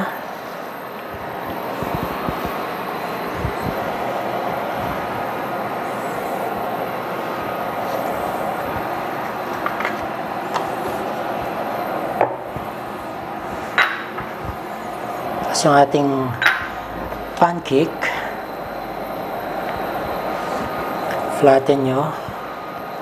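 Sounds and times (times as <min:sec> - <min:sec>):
cooktop cooling fan running: 0:00.0 - 0:23.0.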